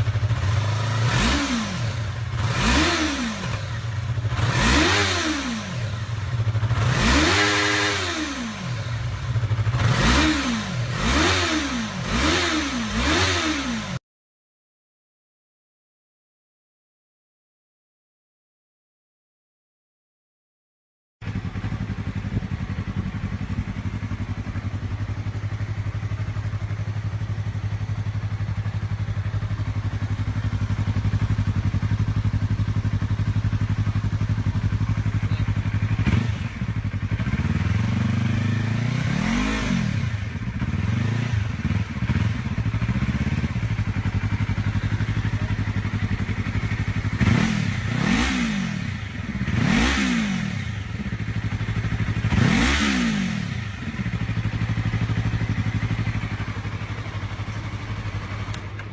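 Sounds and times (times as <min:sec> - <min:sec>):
motorcycle engine idling and revving: 0:00.0 - 0:14.0, 0:21.2 - 0:58.9.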